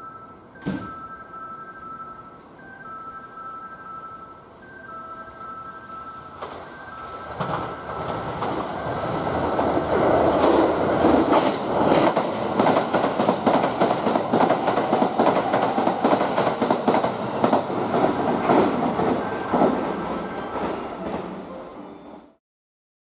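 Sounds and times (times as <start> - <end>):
train rumbling past: 0.6 - 22.4.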